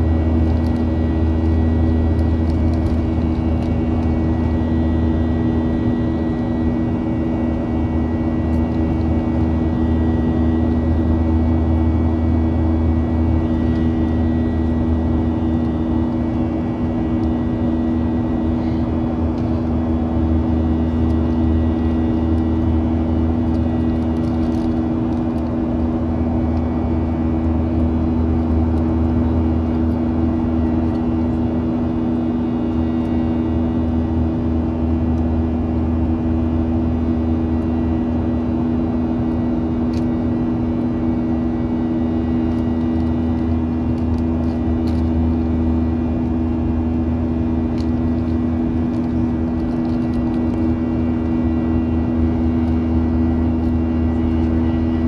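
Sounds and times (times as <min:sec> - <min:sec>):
jet engines in aircraft cabin: 0:00.0 - 0:55.0.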